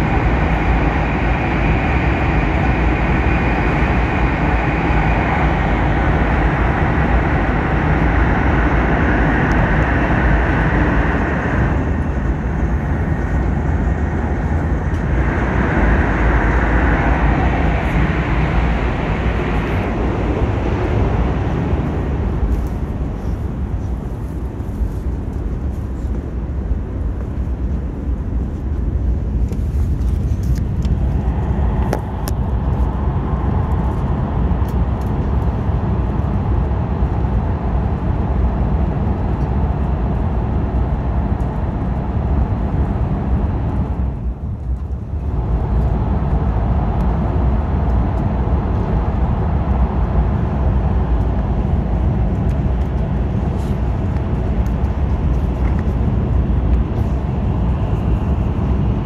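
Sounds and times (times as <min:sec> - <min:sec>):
train running noise rumble: 0:00.0 - 0:59.0.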